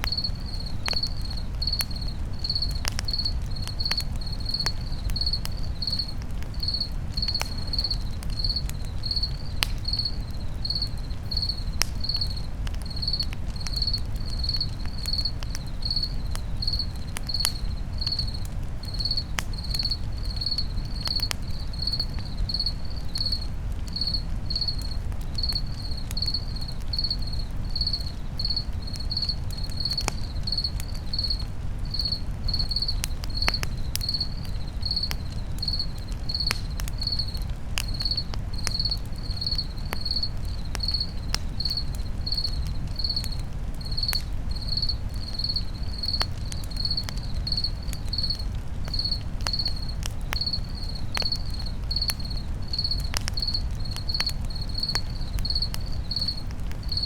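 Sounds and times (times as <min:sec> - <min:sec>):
campfire crackling and popping: 0:00.0 - 0:57.0
cricket chirping: 0:00.0 - 0:57.0.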